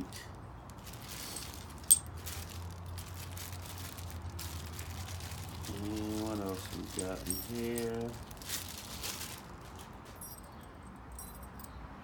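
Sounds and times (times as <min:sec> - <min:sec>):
small parts clicking and rustling: 0:00.2 - 0:11.7.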